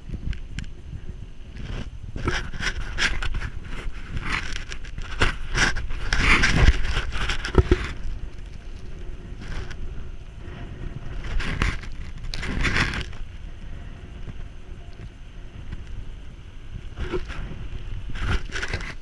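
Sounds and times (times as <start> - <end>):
bike tyre and frame rattle: 0.0 - 19.0
wind on microphone: 0.0 - 19.0.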